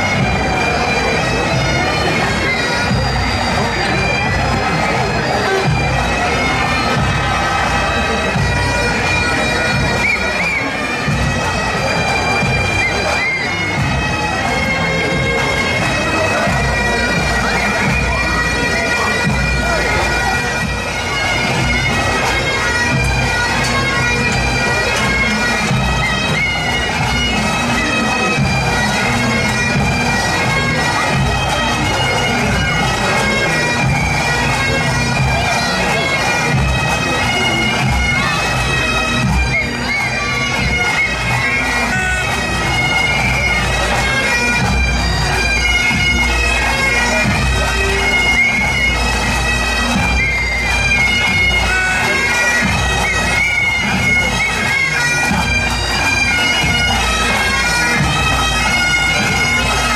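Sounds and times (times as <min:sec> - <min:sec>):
bagpipes playing marching tune: 0:00.0 - 0:59.9.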